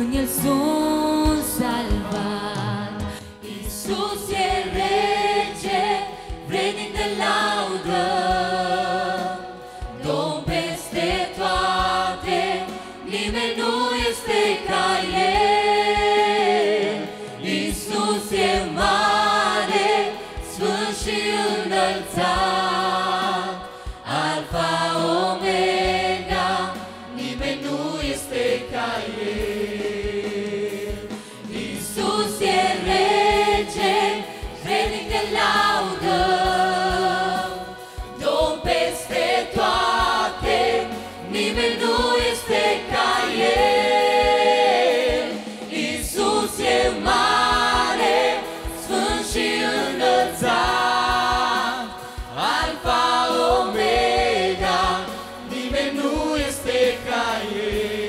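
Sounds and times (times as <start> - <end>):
group singing in harmony: 0.0 - 58.0.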